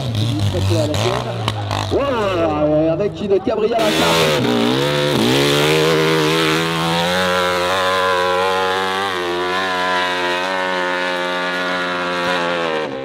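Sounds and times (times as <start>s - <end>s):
dirt bike engine at high revs: 0.0s - 13.0s.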